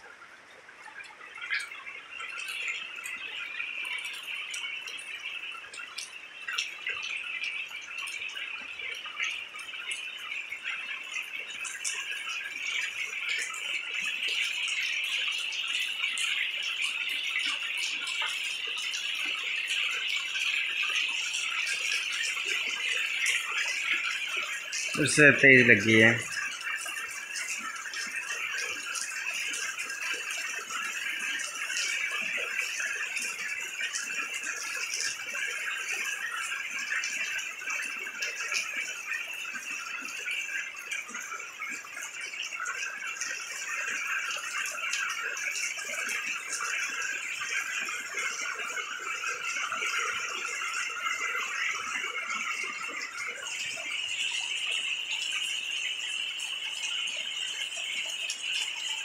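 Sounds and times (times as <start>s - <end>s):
heavy rain falling: 1.5s - 58.9s.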